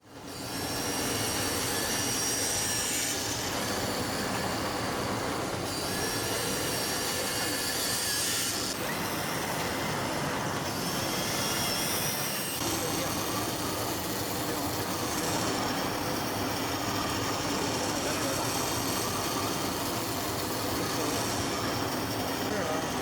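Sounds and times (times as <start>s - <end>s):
high machine whines: 0.0s - 23.0s
cutting machine rushing noise: 0.2s - 23.0s.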